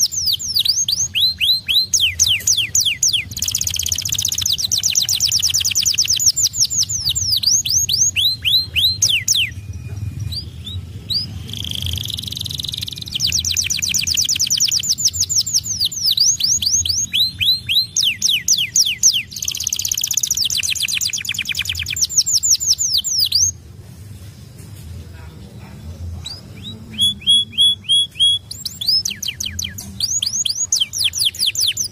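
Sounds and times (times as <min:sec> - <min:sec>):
canary singing trills: 0:00.0 - 0:23.6, 0:25.0 - 0:31.9.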